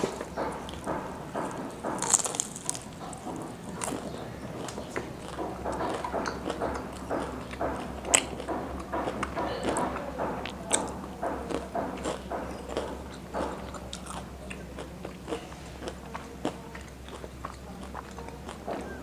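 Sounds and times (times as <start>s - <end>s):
crunchy chewing of fried chicken: 0.0s - 19.0s.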